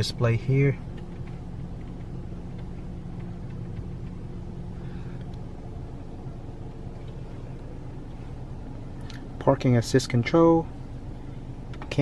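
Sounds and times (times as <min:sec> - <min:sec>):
idling car hum: 0:00.0 - 0:12.0.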